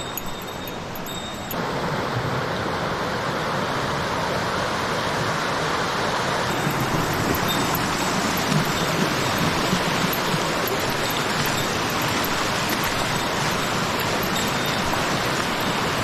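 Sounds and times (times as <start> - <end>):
waterfall and stream rushing: 0.0 - 16.0.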